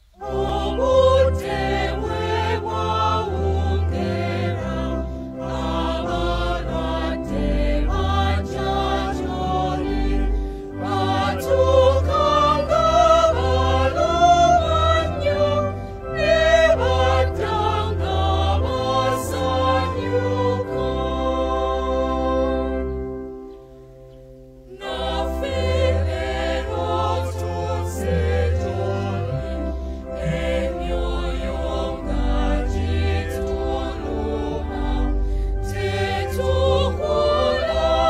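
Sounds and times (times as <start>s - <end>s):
choir singing: 0.0s - 23.5s, 24.7s - 38.0s.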